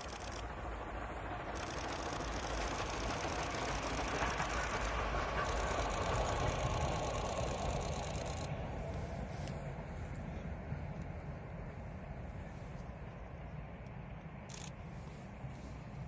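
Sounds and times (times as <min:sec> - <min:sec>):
steam locomotive passing: 0:00.0 - 0:16.0.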